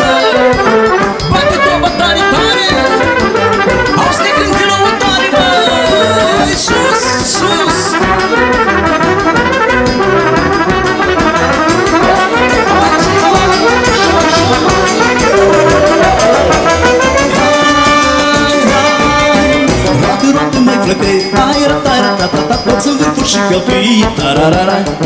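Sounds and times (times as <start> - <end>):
bass drum and cymbal beat: 0.0 - 25.0
brass band playing: 0.0 - 25.0.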